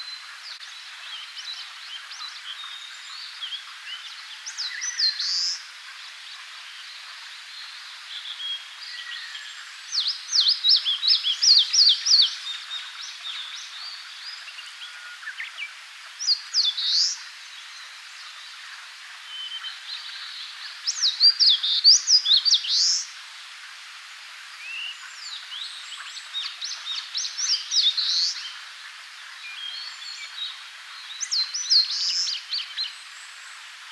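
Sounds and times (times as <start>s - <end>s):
warbler singing: 0.0s - 5.7s, 6.3s - 23.2s, 24.6s - 28.6s, 29.4s - 33.9s.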